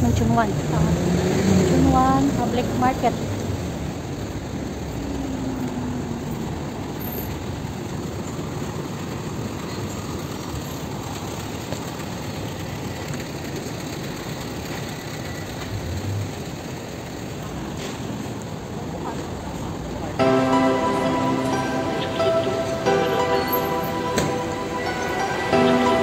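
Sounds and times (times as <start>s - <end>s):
vehicle traffic: 0.0s - 26.0s.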